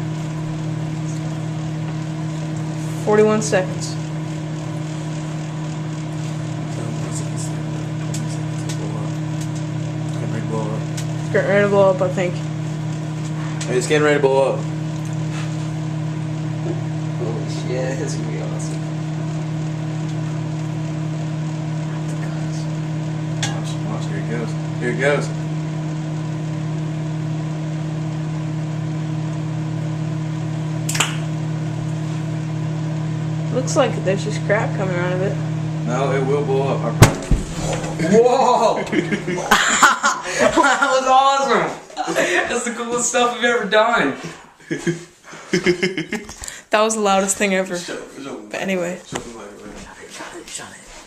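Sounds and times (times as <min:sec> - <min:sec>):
microwave oven humming: 0:00.0 - 0:49.0
fan noise: 0:00.0 - 0:51.0.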